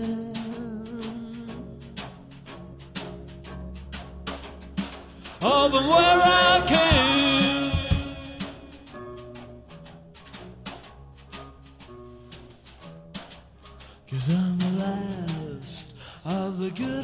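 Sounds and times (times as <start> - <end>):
steady percussion beat: 0.0 - 17.0.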